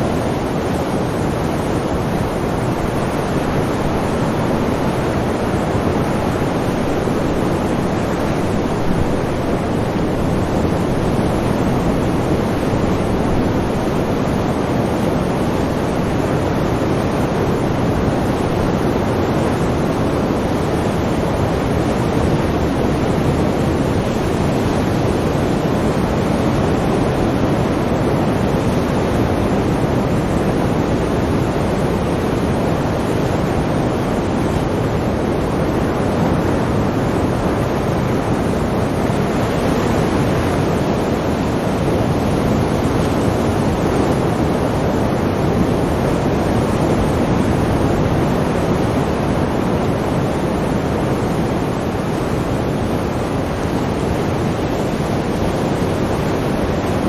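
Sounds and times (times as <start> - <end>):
sea waves and surf: 0.0 - 57.0.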